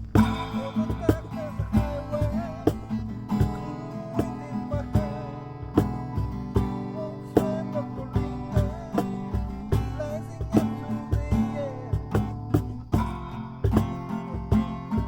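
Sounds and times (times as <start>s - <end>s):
acoustic guitar strumming: 0.0s - 15.0s
person singing: 0.2s - 12.3s.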